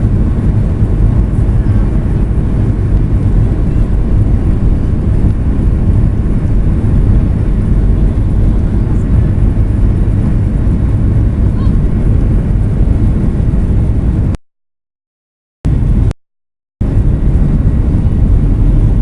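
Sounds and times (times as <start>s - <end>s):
jet engine rumble in cabin: 0.0s - 14.4s, 15.7s - 16.1s, 16.8s - 19.0s.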